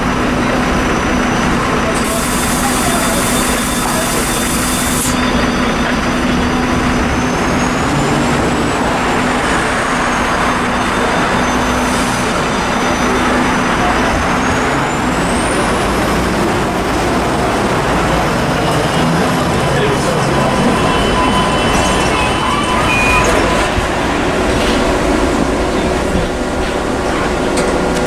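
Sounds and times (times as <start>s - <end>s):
bus low hum: 0.0s - 28.0s
street noise: 0.0s - 28.0s.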